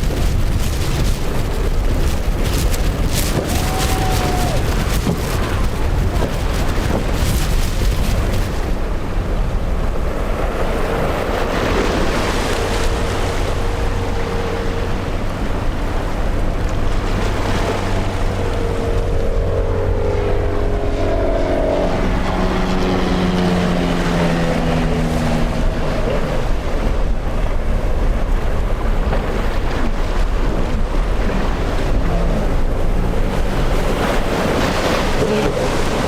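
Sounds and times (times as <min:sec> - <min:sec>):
motorboat engines passing: 0:00.0 - 0:36.0
waves washing: 0:00.0 - 0:36.0
wind buffeting microphone: 0:00.0 - 0:36.0.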